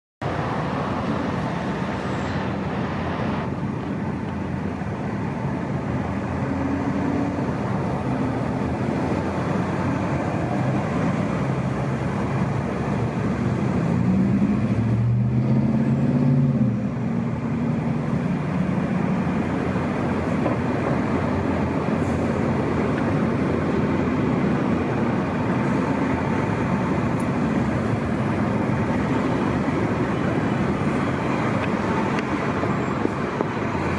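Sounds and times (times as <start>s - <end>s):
fire engine diesel engine: 0.2s - 33.9s
traffic noise: 0.2s - 33.9s.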